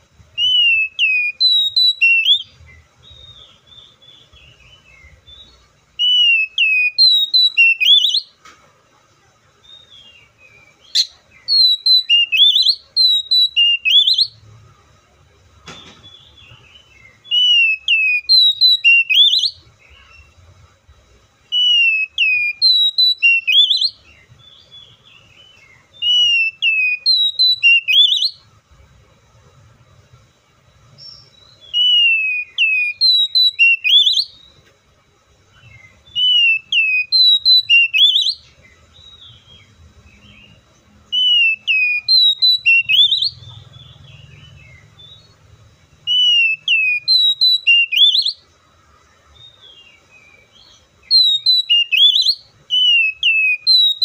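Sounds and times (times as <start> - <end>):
bird whistled song: 0.3 - 8.4, 9.6 - 14.5, 15.8 - 20.4, 21.4 - 28.5, 30.7 - 34.7, 35.4 - 48.5, 49.2 - 54.0.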